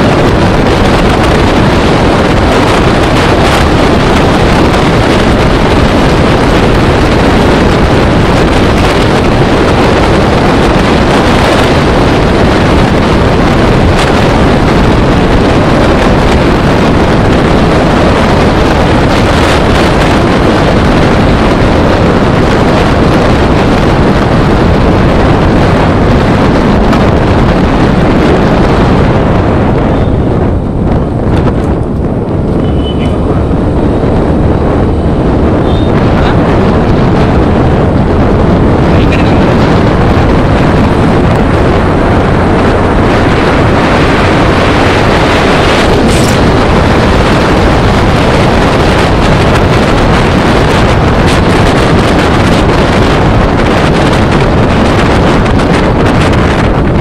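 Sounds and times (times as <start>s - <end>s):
vehicle running noise: 0.0s - 57.0s
wind buffeting microphone: 0.0s - 57.0s.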